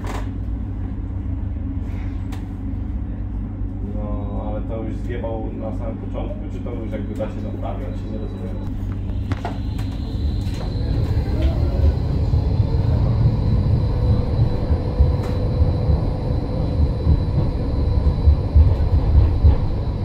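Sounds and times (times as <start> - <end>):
steady whine: 0.0 - 20.0
tram wheels rumbling on rails: 0.0 - 20.0.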